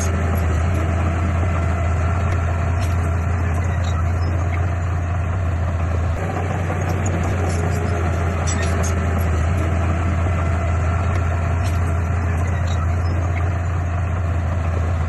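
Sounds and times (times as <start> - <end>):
heavy diesel machinery engine: 0.0 - 15.0.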